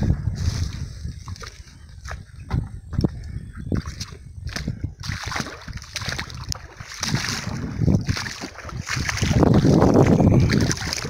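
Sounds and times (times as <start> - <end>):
feet wading through water: 0.3 - 11.0.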